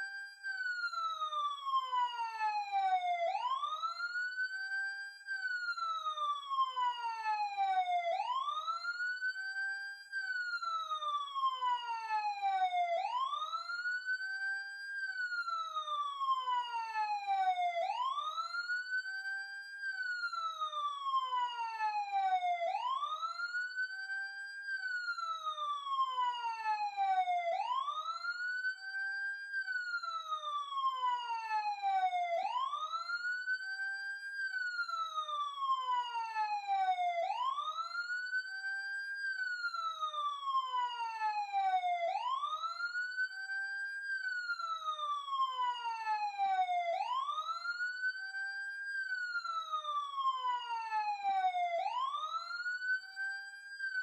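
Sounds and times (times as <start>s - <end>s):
police siren wailing: 0.0s - 54.0s.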